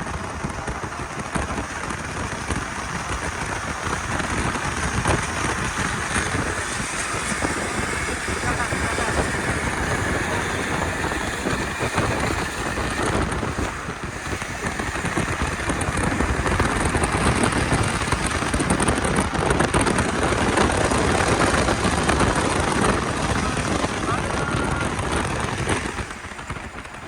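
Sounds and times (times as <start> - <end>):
vehicle rushing noise: 0.0 - 27.0.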